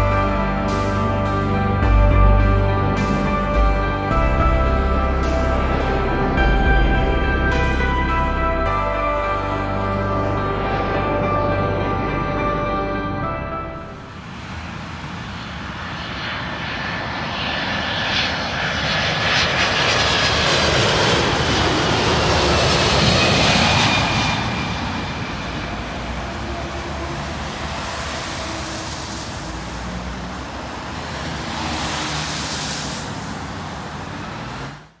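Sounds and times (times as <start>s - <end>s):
jet airliner passing overhead: 0.0s - 35.0s.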